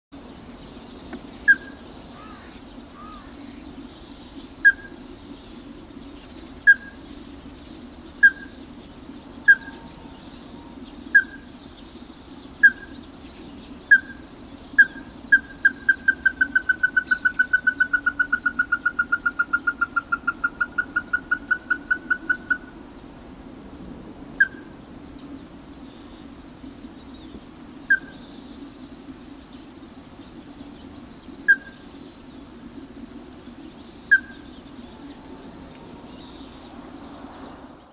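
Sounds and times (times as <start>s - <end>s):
steady low hum: 0.2s - 37.9s.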